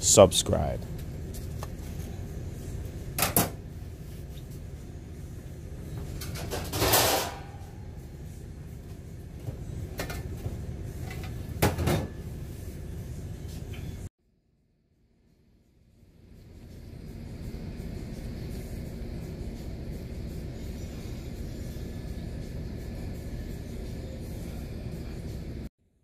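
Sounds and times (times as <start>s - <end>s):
low room hum: 0.0s - 25.7s.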